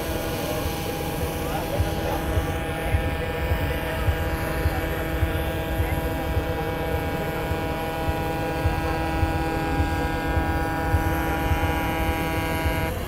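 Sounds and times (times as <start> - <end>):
engine drone: 0.0 - 13.0
low rumble: 0.0 - 13.0.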